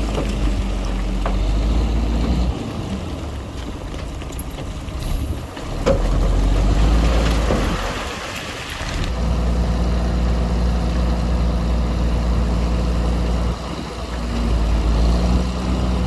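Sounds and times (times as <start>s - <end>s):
diesel earthmoving machine rumble: 0.0s - 16.0s.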